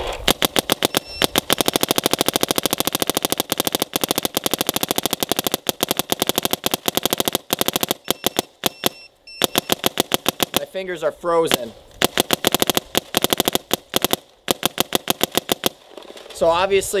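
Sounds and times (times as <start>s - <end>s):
paintball marker rapid firing: 0.0s - 10.8s, 11.4s - 15.8s.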